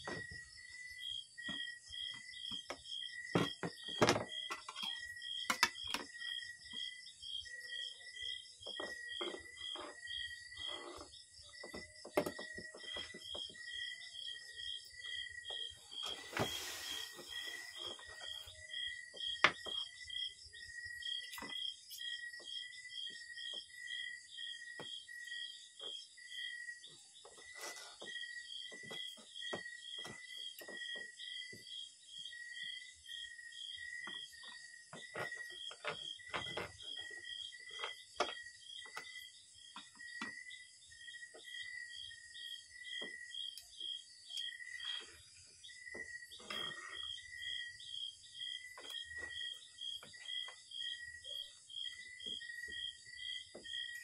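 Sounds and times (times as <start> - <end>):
continuous high insect hiss: 0.0 - 54.0.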